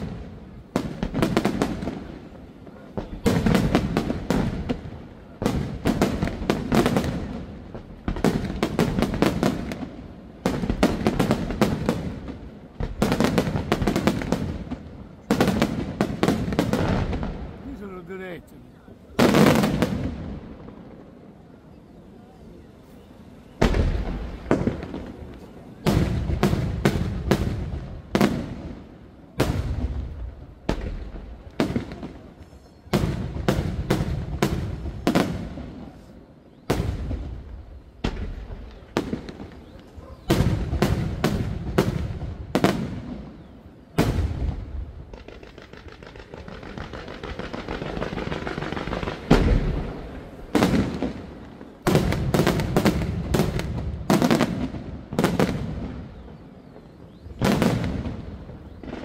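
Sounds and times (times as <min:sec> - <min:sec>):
firework crackling: 0:00.0 - 0:21.7, 0:22.4 - 0:59.0.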